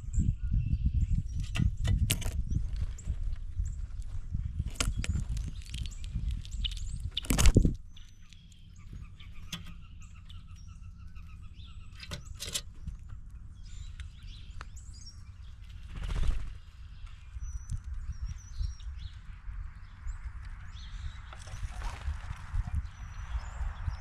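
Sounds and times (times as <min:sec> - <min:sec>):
birds chirping and calling: 0:00.0 - 0:24.0
wind rumble on microphone: 0:00.0 - 0:24.0.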